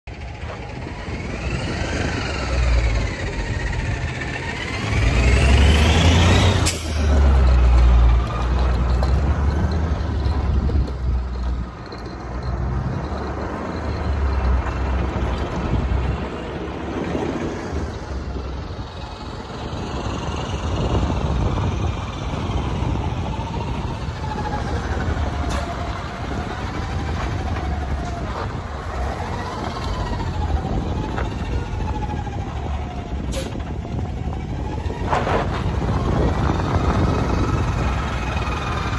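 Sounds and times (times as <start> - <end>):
engine whine: 0.1 - 38.9
truck engine running: 0.1 - 38.9.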